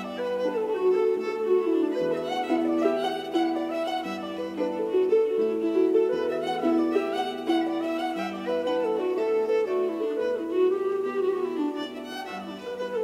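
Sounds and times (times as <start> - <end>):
instrumental music: 0.0 - 13.0.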